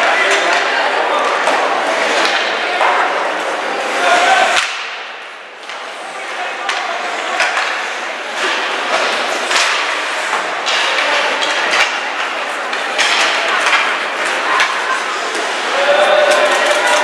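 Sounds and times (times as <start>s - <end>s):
crowd voices and shouts: 0.0s - 17.0s
hockey sticks and puck knocking: 0.0s - 17.0s.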